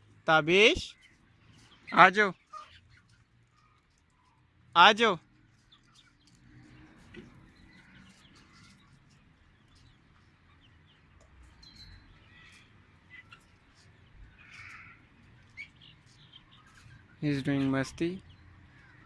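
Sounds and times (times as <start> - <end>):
young chickens peeping and clucking: 0.1 - 19.0.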